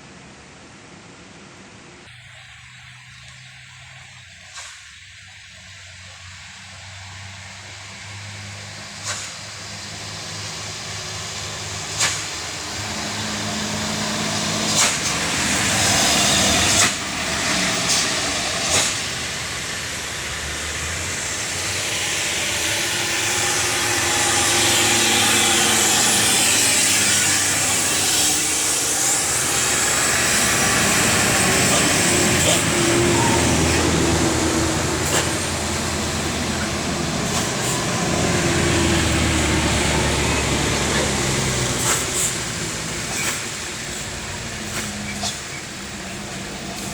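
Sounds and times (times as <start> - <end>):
diesel truck engine running: 2.1 - 46.9
heavy rain hissing: 2.1 - 46.9
tyre spray on wet road: 8.0 - 46.9.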